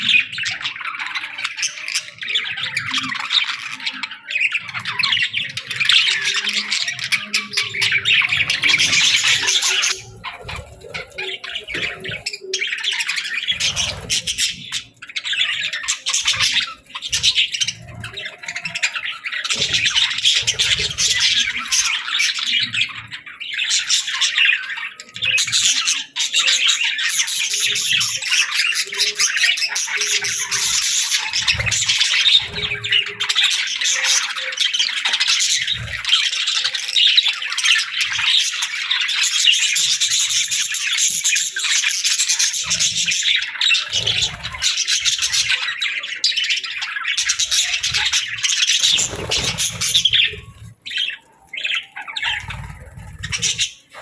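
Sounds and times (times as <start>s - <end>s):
many birds chirping: 0.0s - 54.0s.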